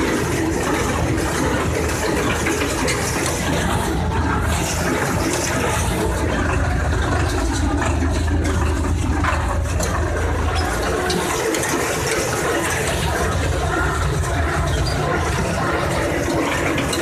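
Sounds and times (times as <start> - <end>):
baler machinery clattering: 0.0 - 17.0
tractor engine running: 0.0 - 17.0.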